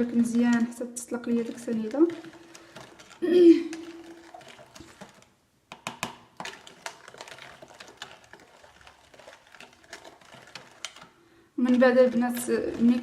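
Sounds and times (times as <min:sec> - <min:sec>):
spoon stirring in a container: 0:00.0 - 0:13.0.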